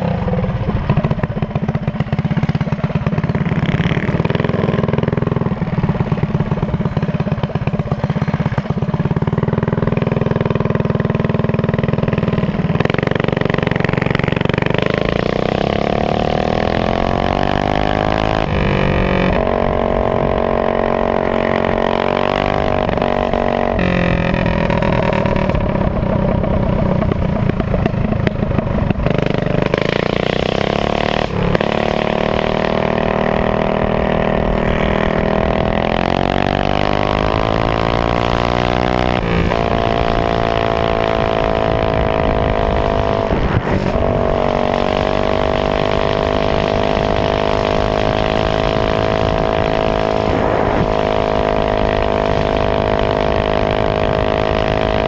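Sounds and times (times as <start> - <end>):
small engine running at high speed: 0.0 - 55.0.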